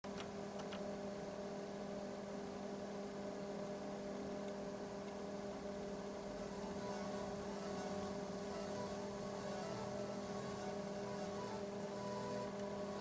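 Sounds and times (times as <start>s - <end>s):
oscilloscope electrical hum: 0.1s - 13.0s.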